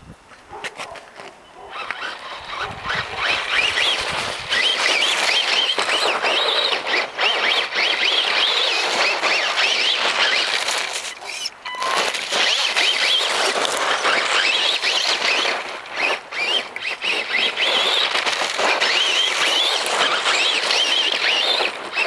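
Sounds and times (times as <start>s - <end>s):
tyres churning through snow: 0.5s - 22.0s
electric motor whining: 1.6s - 22.0s.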